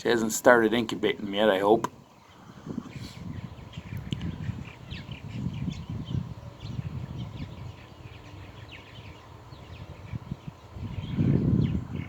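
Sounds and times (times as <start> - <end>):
purple martins chattering: 0.0 - 12.0.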